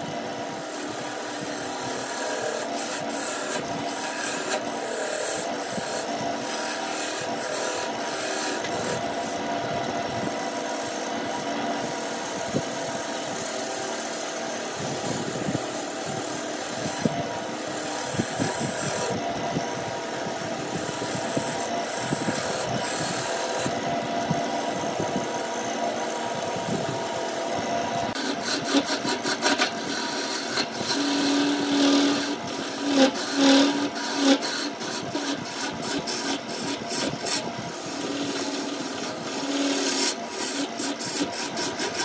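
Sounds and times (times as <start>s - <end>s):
lathe tool cutting wood: 0.0s - 42.0s
machine hum: 0.0s - 42.0s.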